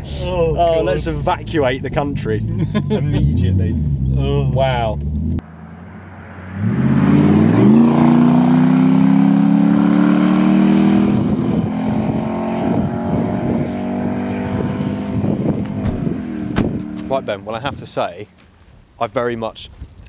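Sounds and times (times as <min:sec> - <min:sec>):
car engine accelerating hard: 0:00.3 - 0:17.4.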